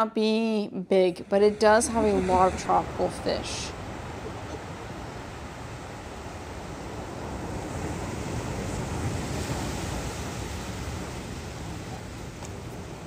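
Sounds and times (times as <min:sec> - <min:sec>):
ocean waves washing: 0:00.9 - 0:13.0.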